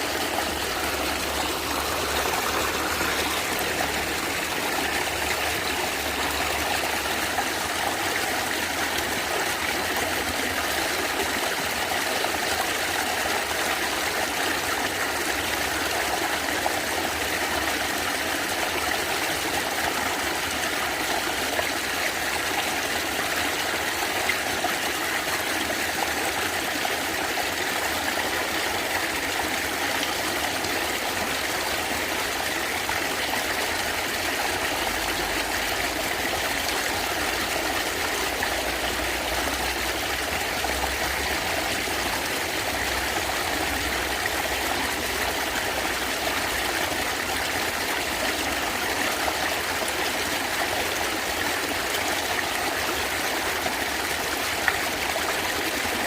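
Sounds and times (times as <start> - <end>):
stream gurgling over rocks: 0.0 - 56.0.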